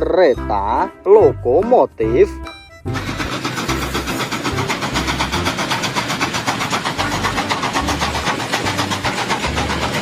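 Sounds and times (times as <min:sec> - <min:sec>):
engine chugging: 0:01.2 - 0:10.0.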